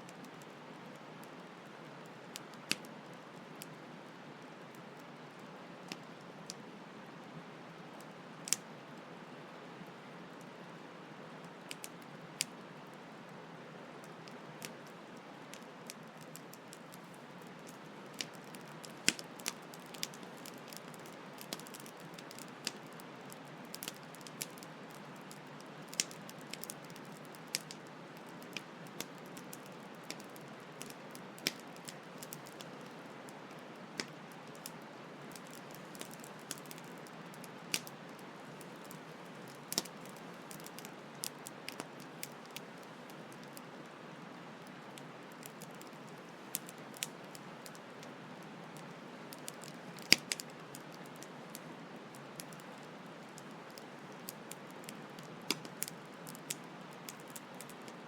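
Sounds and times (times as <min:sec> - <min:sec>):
campfire crackling and popping: 0:02.3 - 0:03.8, 0:08.4 - 0:08.8, 0:11.4 - 0:13.0, 0:14.0 - 0:58.0.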